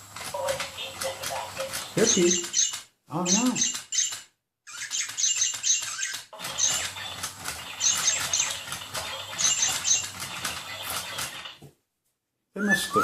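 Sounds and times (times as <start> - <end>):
parrots chattering: 0.4 - 4.1, 4.7 - 11.6.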